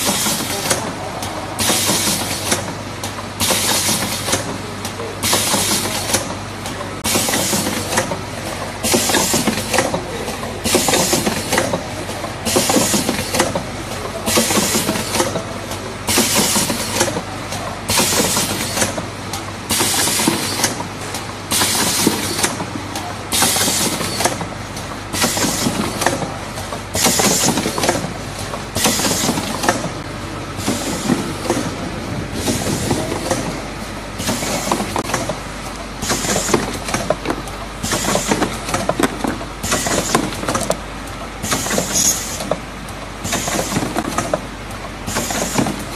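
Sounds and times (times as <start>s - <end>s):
machine clattering: 0.0s - 31.8s, 34.2s - 45.9s.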